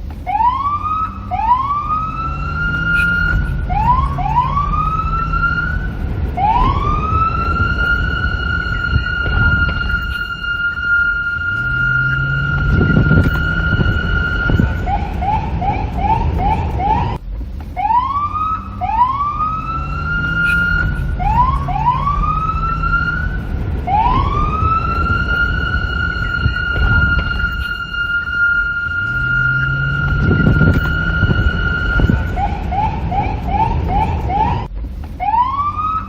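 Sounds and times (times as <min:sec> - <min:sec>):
police siren: 0:00.0 - 0:17.2, 0:17.8 - 0:36.0
low wind rumble: 0:00.0 - 0:36.0.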